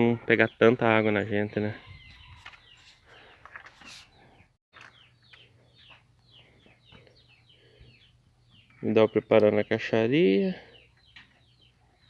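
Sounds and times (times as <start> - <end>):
faint bird chirping: 0.3 - 12.0.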